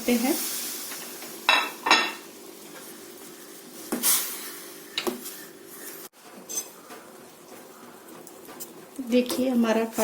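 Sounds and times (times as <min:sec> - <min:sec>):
gas stove hum: 0:00.0 - 0:10.0.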